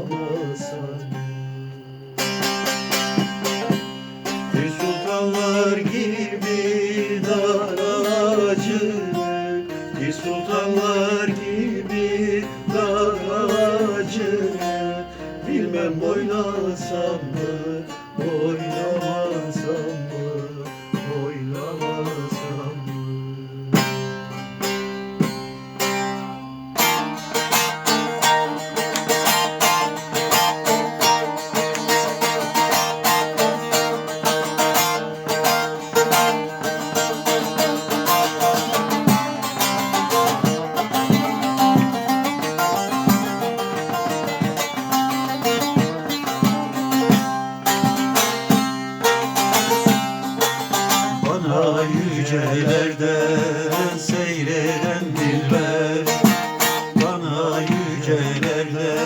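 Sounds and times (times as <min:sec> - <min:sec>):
ringing drone: 0:00.0 - 0:57.6
plucked string instrument: 0:00.0 - 0:59.0.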